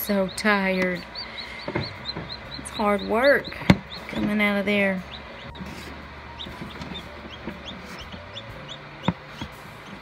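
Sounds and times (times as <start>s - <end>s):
chicks peeping: 0.0s - 10.0s
low steady hum: 0.0s - 10.0s.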